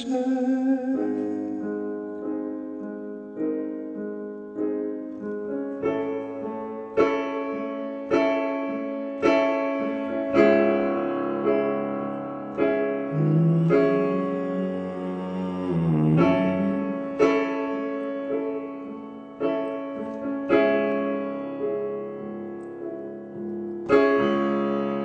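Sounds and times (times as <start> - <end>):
piano chords ringing: 0.0 - 25.0.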